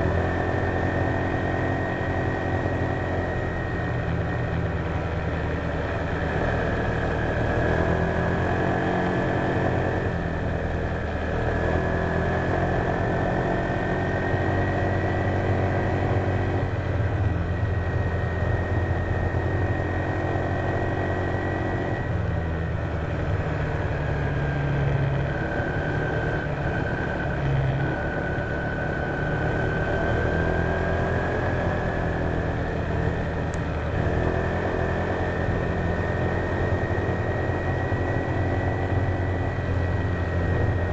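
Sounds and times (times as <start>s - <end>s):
scooter engine whining: 0.0s - 40.9s.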